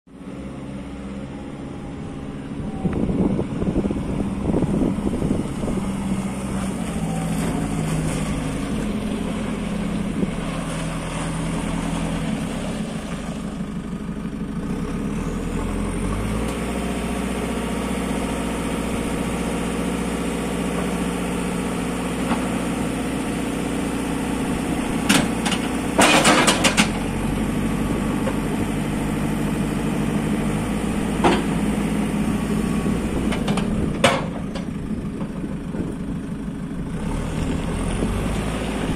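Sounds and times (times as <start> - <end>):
diesel engine running: 0.1 - 38.9.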